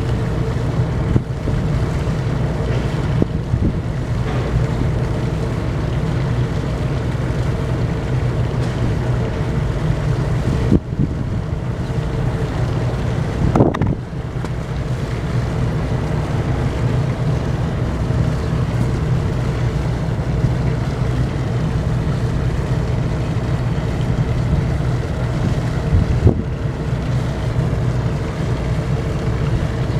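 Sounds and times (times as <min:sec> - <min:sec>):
ship engines humming: 0:00.0 - 0:29.9
wind buffeting microphone: 0:00.0 - 0:29.9.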